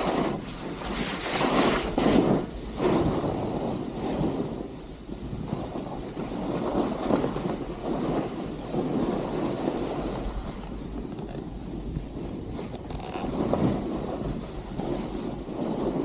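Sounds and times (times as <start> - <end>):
snowboard edges scraping snow: 0.0 - 16.0
wind rumbling on microphone: 0.0 - 16.0.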